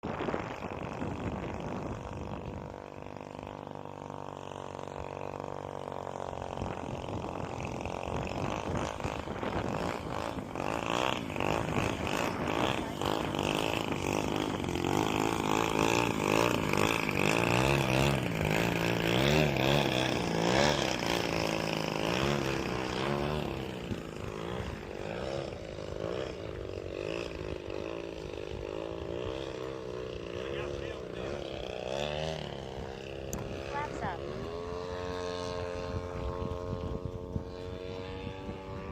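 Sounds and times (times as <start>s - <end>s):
model aeroplane motor and propeller: 0.0s - 38.9s.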